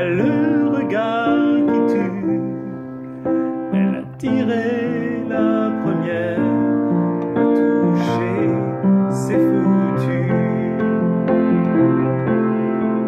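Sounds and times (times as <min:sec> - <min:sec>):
upright piano playing pop ballad: 0:00.0 - 0:13.0.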